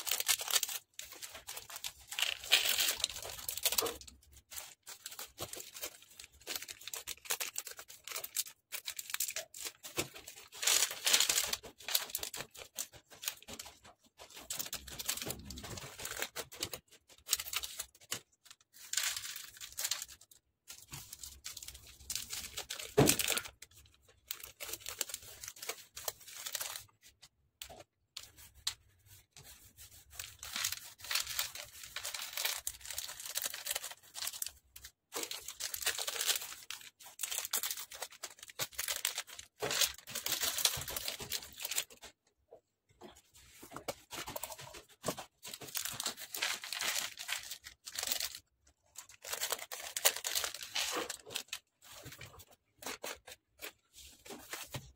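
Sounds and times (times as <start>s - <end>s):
plastic bags crinkling and tearing: 0.0s - 27.1s, 30.0s - 42.1s, 43.5s - 54.9s.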